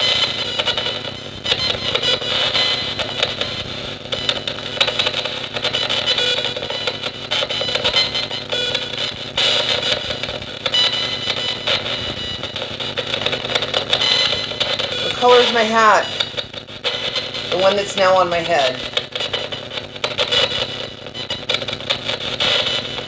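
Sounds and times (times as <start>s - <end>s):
choppy radio static: 0.0s - 23.0s
snatches of broadcast sound: 0.0s - 23.0s.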